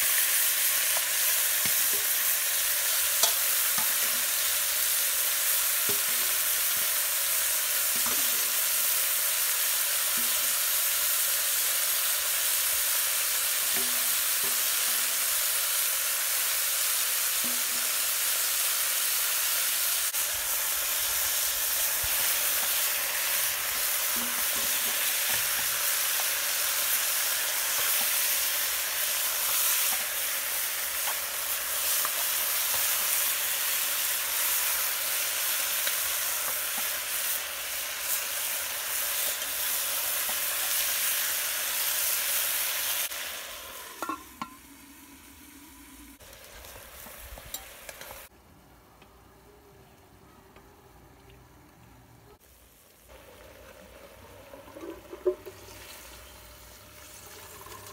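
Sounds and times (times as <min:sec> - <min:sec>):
meat sizzling in a pot: 0:00.0 - 0:48.3, 0:52.4 - 0:57.9.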